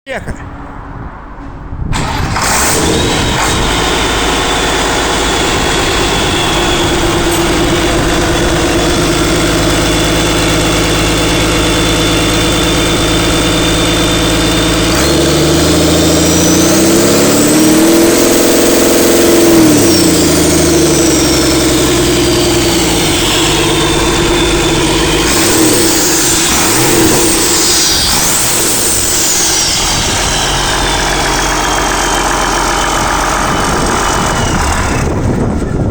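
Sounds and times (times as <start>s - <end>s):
diesel engine starting and idling: 0.8s - 35.9s.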